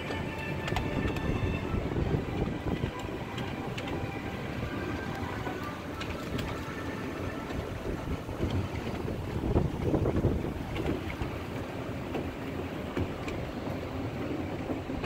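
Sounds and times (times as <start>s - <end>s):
wheel clicks: 0.0s - 13.5s
ride-on train rumbling on track: 0.0s - 15.0s.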